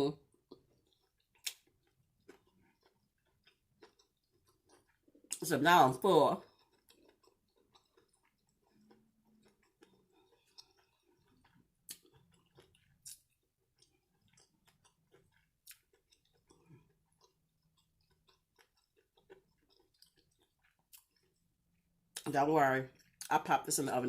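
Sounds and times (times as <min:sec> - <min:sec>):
faint chewing with mouth clicks: 0:00.1 - 0:05.5, 0:06.3 - 0:22.3, 0:22.9 - 0:23.3.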